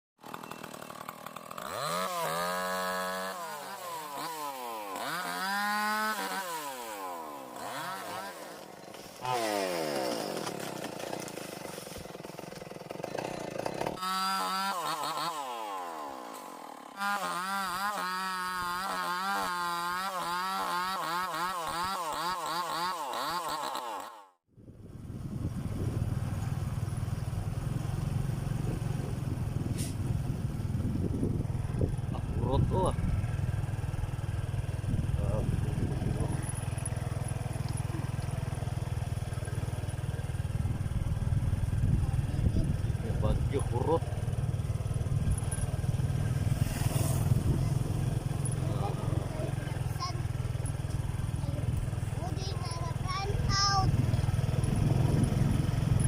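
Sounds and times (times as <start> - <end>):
chainsaw revving and cutting wood: 0.2 - 24.5, 26.8 - 56.0.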